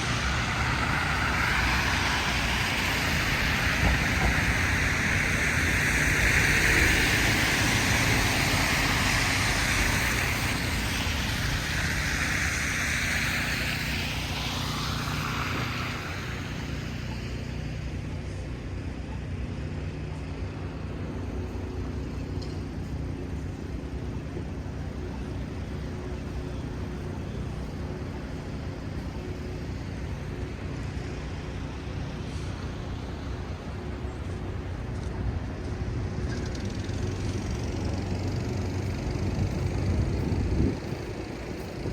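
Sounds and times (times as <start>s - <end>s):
low hum of traffic: 0.0s - 41.9s
tyre hiss from passing vehicles: 0.0s - 41.9s.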